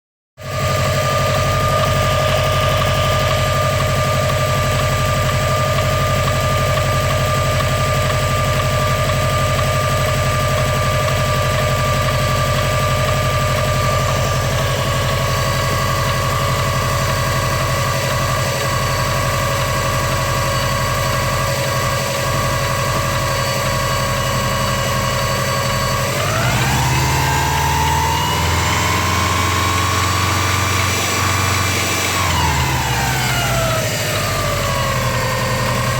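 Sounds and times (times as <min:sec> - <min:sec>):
car engine idling: 0:00.4 - 0:35.9
high-pitched engine whine: 0:00.4 - 0:35.9.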